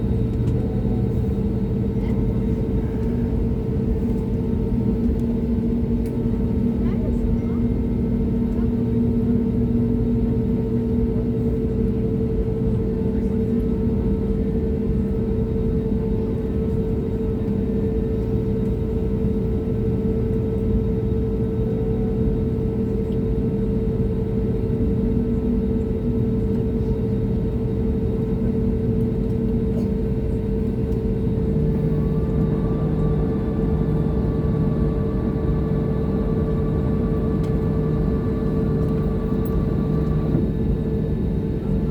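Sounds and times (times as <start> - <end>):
jet engines roaring in cabin: 0.0 - 41.9.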